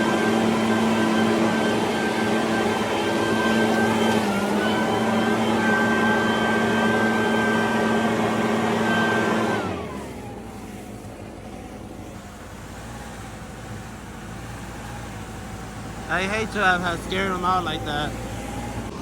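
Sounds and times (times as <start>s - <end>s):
motor whining: 0.0s - 19.0s.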